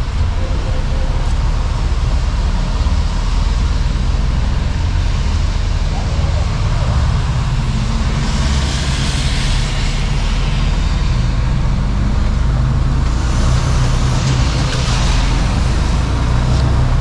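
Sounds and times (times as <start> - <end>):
truck diesel engine droning: 0.0 - 17.0
tyres hissing on wet road: 0.0 - 17.0.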